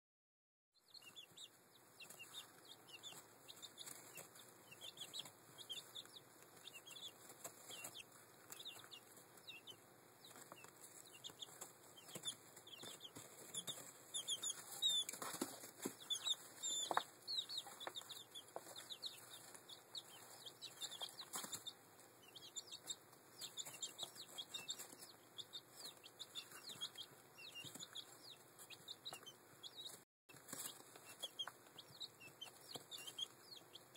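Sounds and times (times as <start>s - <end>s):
chicks pecking and scratching: 0.8s - 33.9s
chicks peeping: 0.8s - 33.9s.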